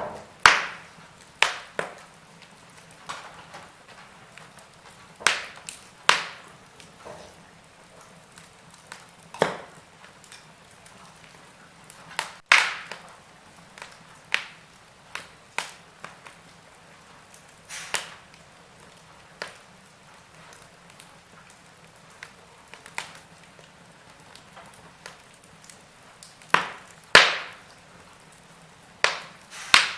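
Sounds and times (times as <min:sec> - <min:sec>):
faint steady hiss: 0:00.0 - 0:29.9
wood fire crackling: 0:00.0 - 0:29.9.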